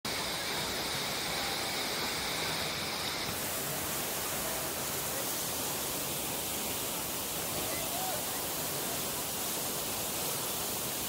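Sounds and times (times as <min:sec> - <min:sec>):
waterfall and river rushing: 0:00.1 - 0:11.0.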